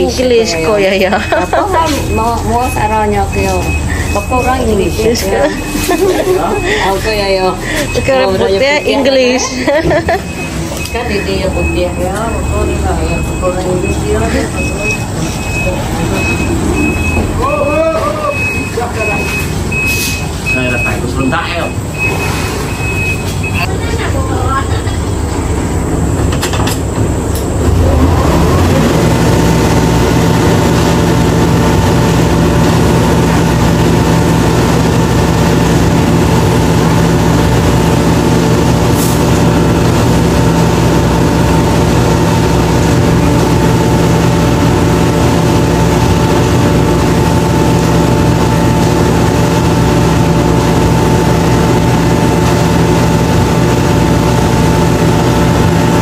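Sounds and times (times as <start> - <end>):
road noise: 0.0 - 56.0
vehicle engine droning: 0.0 - 56.0.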